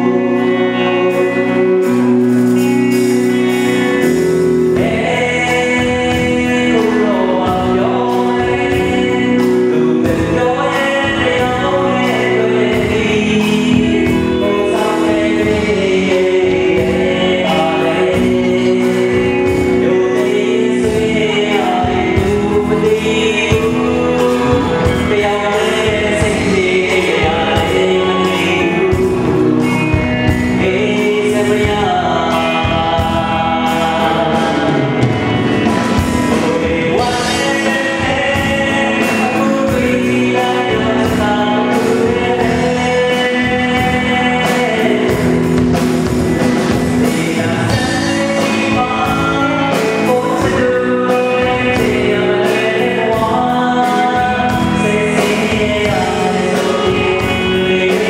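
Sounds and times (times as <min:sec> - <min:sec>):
instrumental accompaniment with beat: 0:00.0 - 0:58.0
man singing into a microphone: 0:00.0 - 0:58.0.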